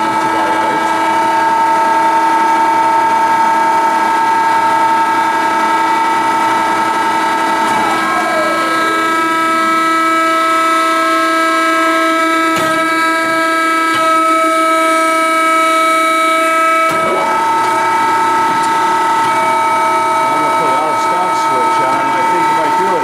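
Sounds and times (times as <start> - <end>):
band saw whining: 0.0 - 23.0.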